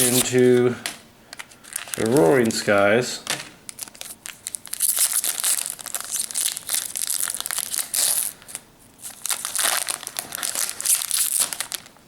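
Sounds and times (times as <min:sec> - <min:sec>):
foil wrapper crinkling: 0:00.0 - 0:00.7, 0:01.3 - 0:12.0.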